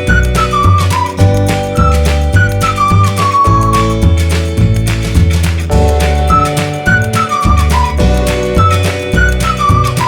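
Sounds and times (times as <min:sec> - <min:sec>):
flute-like melody: 0:00.0 - 0:04.3, 0:05.7 - 0:10.0
looping background music: 0:00.0 - 0:10.0.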